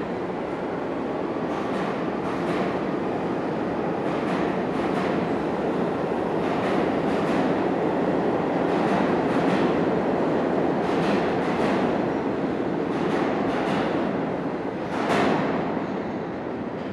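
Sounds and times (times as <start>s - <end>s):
subway train running in tunnel: 0.0s - 16.9s.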